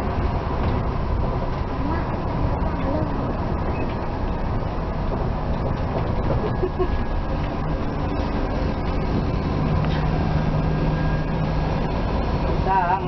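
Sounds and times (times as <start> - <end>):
large diesel engine rumble: 0.0 - 13.0.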